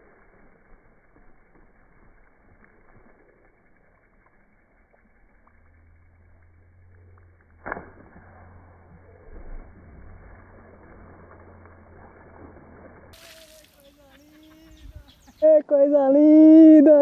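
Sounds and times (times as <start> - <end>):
fish splashing water surface: 0.0 - 14.7
low steady hum: 0.0 - 15.4.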